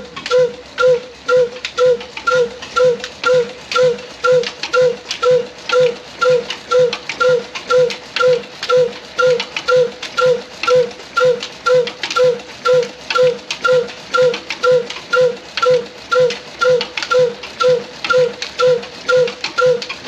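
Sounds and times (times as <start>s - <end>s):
diesel engine popping exhaust: 0.0s - 20.0s.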